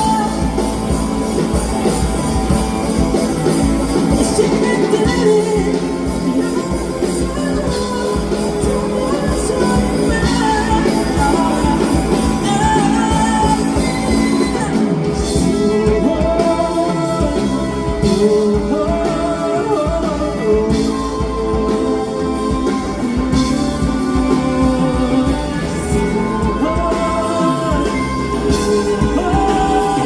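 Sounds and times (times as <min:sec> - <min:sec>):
rock band playing: 0:00.0 - 0:30.0
wavering lead guitar melody: 0:00.0 - 0:30.0.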